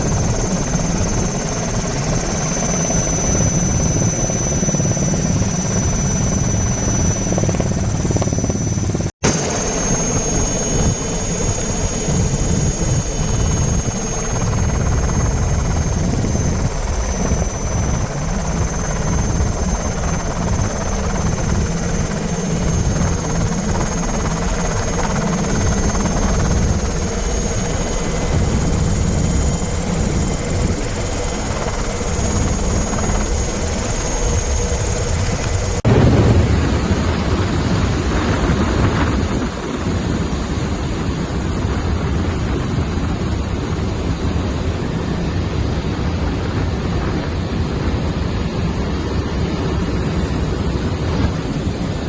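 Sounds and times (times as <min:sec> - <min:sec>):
helicopter rotor and engine rumble: 0:00.0 - 0:52.0
high turbine whine: 0:00.0 - 0:52.0.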